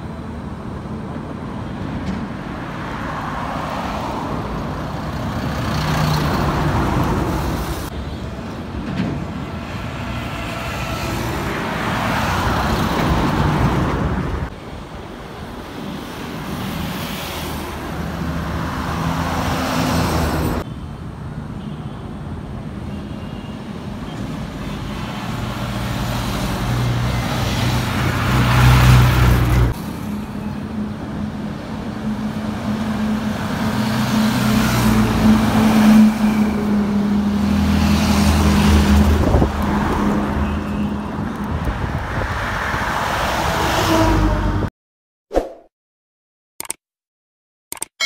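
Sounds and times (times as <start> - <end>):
lorries passing by: 0.0 - 21.3, 23.7 - 44.7
highway traffic drone: 0.0 - 44.7.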